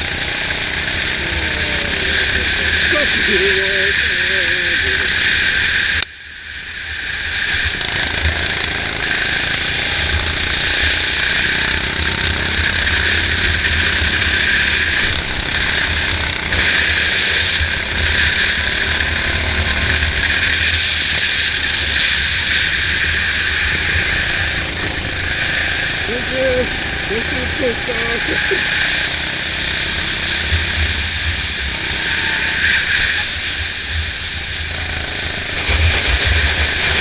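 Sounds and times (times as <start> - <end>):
go-kart engine running hard: 0.0 - 37.0.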